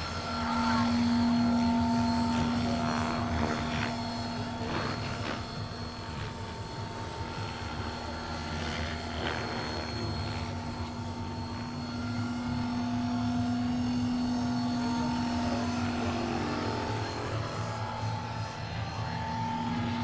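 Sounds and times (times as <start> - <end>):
model helicopter rotor whine: 0.0 - 20.0.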